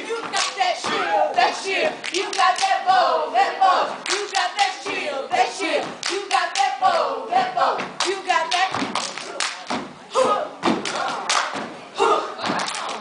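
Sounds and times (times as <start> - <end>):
voices chanting and shouting: 0.0 - 13.0.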